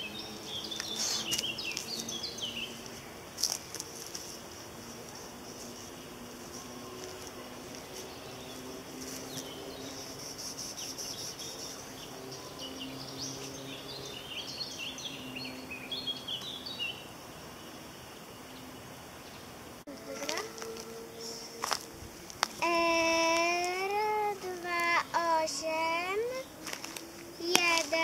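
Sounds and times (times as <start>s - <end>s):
high outdoor background hiss: 0.0s - 28.0s
songbird chirping: 0.0s - 28.0s.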